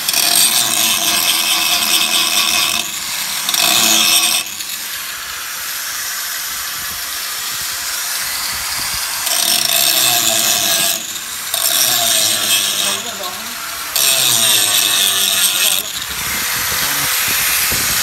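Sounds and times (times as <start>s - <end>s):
power tool grinding steel: 0.0s - 18.0s.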